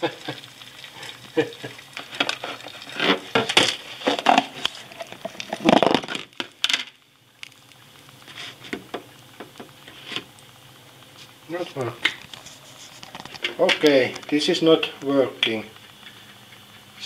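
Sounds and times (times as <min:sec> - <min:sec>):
rice and container rustling: 0:00.0 - 0:07.0, 0:07.6 - 0:10.4, 0:11.0 - 0:16.4.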